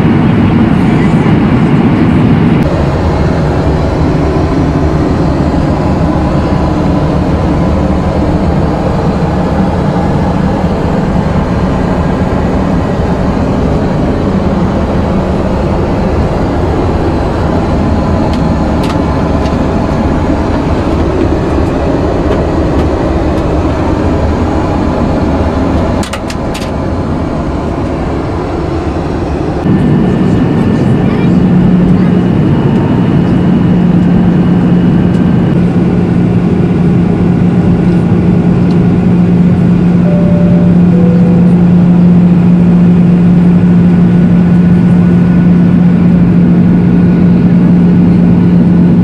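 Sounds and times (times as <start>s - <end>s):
airplane cabin engine roar: 0.0s - 49.0s.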